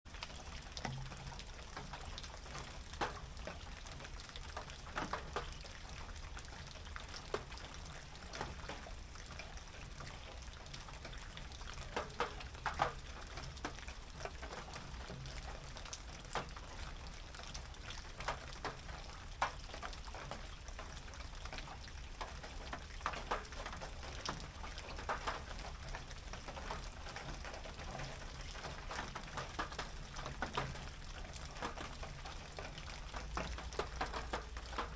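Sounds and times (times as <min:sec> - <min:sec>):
rain patter on tin roof: 0:00.1 - 0:34.9.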